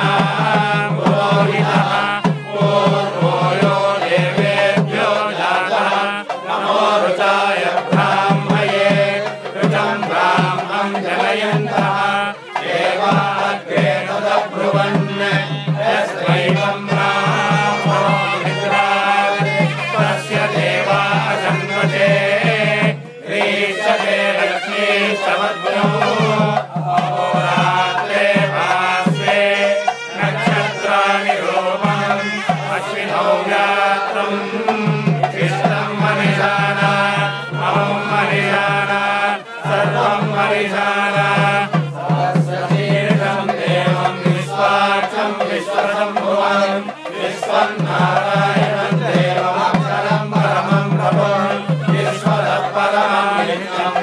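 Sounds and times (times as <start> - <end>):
priests chanting: 0.0 - 54.0.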